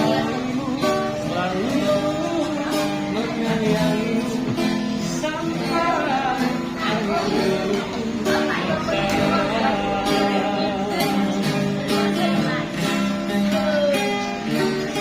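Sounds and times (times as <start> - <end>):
acoustic guitar strumming: 0.0 - 15.0
person singing a pop ballad: 0.0 - 15.0.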